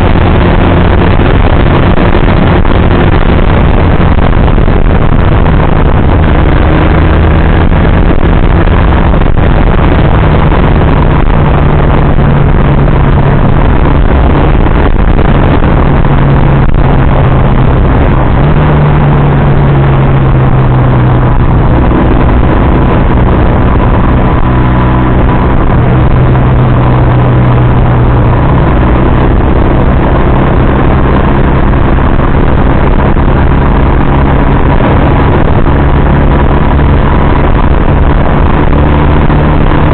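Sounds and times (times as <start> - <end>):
loud rushing noise: 0.0 - 39.9
motorcycle engine running: 0.0 - 39.9.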